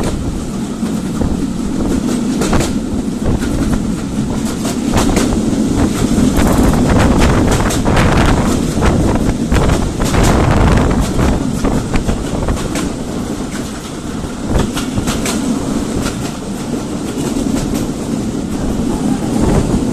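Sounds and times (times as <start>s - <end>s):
freight train rumbling: 0.0s - 19.9s
wheels clacking over rail joints: 0.0s - 19.9s.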